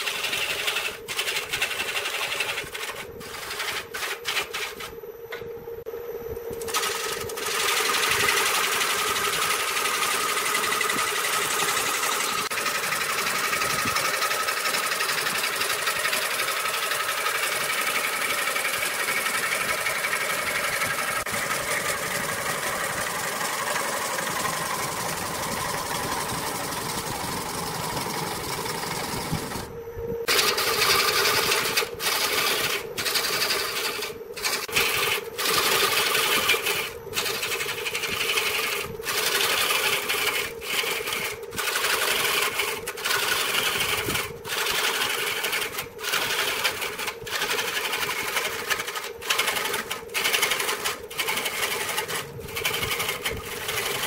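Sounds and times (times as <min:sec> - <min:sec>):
turning tool scraping wood: 0:00.0 - 0:05.0, 0:06.6 - 0:29.7, 0:30.3 - 0:54.0
lathe motor hum: 0:00.0 - 0:54.0.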